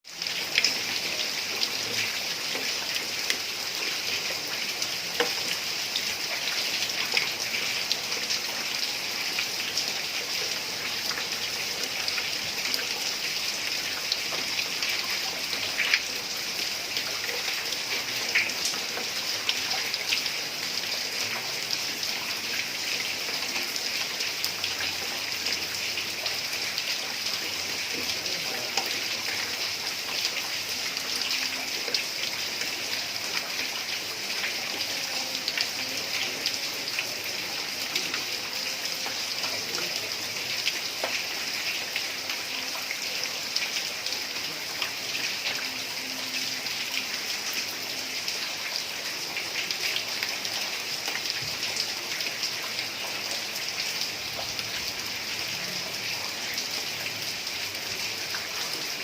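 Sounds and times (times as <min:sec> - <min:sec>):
heavy rain on a tiled roof: 0:00.0 - 0:59.0.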